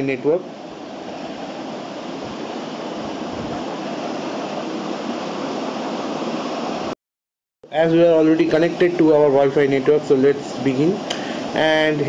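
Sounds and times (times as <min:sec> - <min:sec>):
room background hiss: 0:00.0 - 0:07.0, 0:07.6 - 0:12.0.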